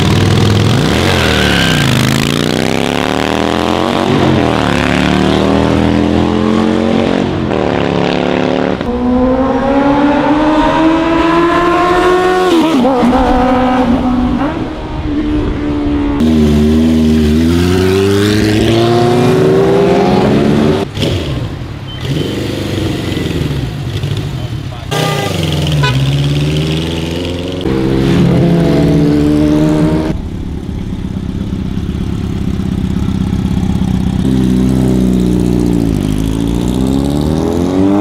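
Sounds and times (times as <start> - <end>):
motorcycles accelerating: 0.0 - 38.0.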